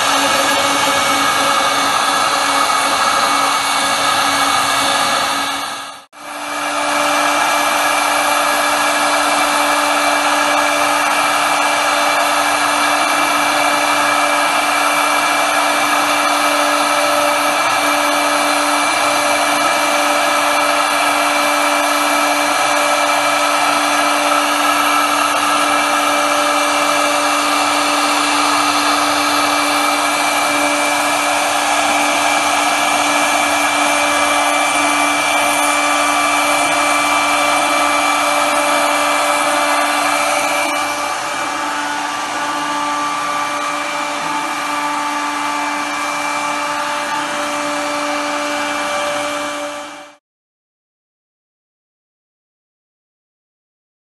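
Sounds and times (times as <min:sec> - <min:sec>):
router spindle high whine: 0:00.0 - 0:50.2.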